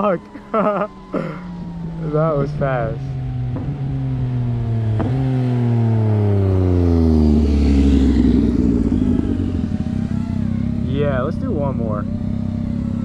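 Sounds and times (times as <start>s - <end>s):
motorcycle engine slowing: 0.0s - 13.0s.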